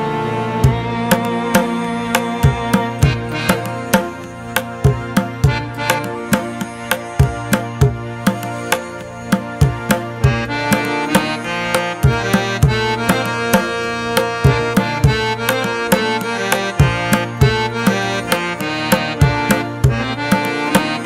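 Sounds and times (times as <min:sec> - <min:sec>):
percussion beat with melody: 0:00.0 - 0:21.0.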